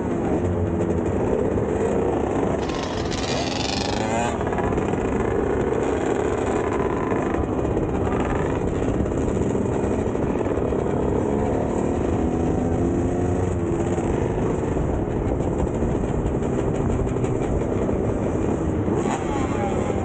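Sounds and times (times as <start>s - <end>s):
dirt bike engines revving: 0.0s - 15.2s, 15.8s - 20.0s.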